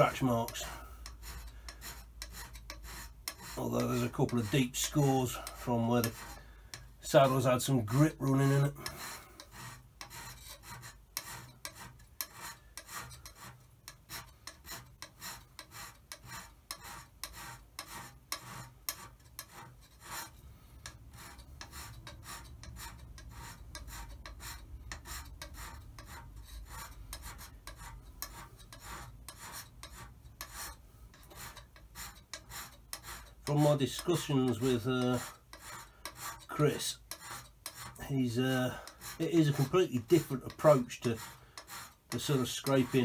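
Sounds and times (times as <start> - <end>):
hand scraper scratching metal: 0.0 - 43.0.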